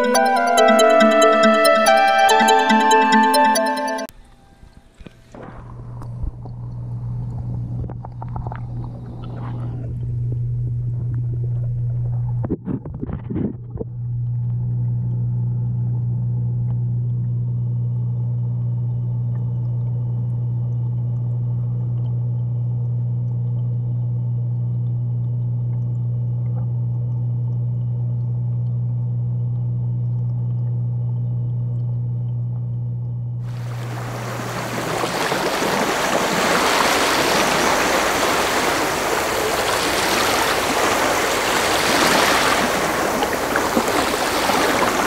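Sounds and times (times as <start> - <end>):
aquarium pump humming: 4.1 - 12.5, 13.9 - 45.0.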